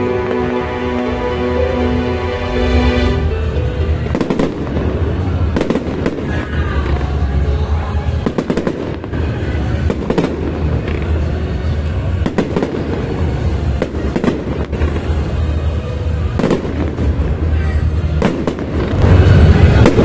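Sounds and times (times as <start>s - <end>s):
steady low rumble: 0.0s - 20.0s
fireworks bangs and crackles: 3.5s - 20.0s.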